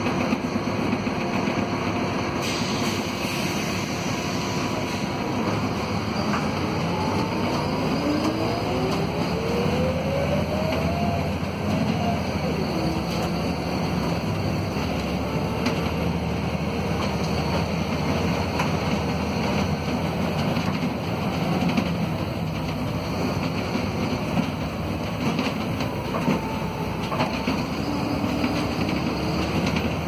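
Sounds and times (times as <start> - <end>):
bus diesel engine under load: 0.0 - 30.0
engine whine: 0.0 - 30.0
road noise: 0.0 - 30.0.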